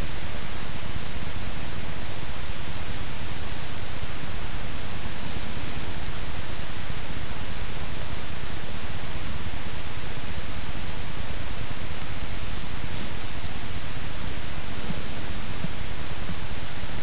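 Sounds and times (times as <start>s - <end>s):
static hiss: 0.0s - 17.0s.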